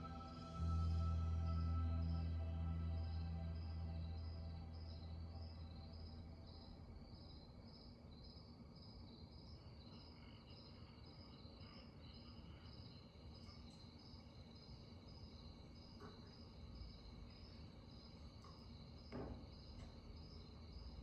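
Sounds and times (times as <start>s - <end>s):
faint high chirping: 0.0s - 21.0s.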